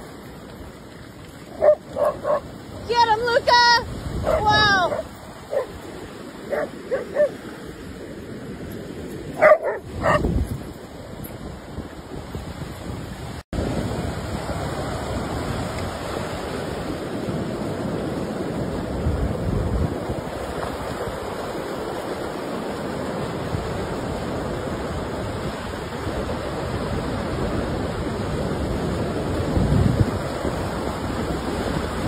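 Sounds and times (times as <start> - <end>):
ocean surf breaking on beach: 0.0 - 32.0
wind gusting on microphone: 1.5 - 32.0.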